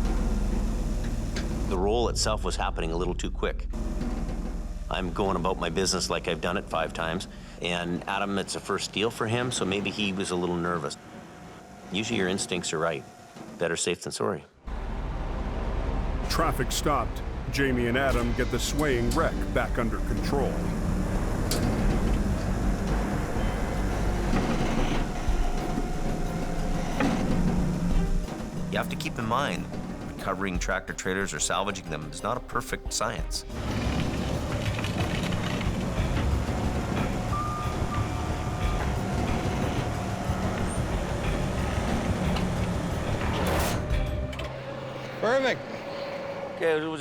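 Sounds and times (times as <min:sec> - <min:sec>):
diesel truck engine rumbling: 0:00.0 - 0:11.0, 0:14.7 - 0:32.5, 0:33.3 - 0:46.5.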